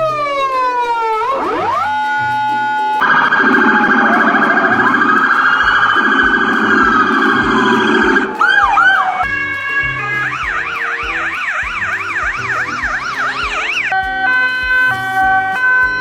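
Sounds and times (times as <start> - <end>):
electronic police siren: 0.0 - 16.0.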